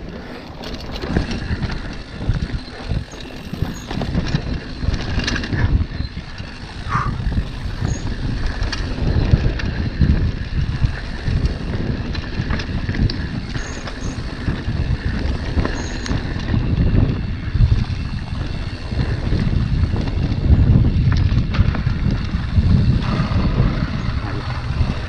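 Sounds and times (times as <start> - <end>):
bike clicks and knocks: 0.0 - 25.0
tyres rumbling on dirt: 0.0 - 25.0
wind buffeting microphone: 0.0 - 25.0.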